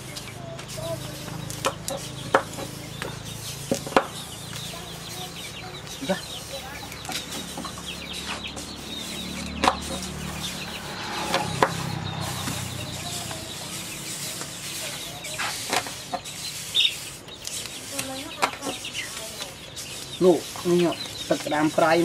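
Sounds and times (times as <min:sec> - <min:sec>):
chickens clucking: 0:00.1 - 0:22.0.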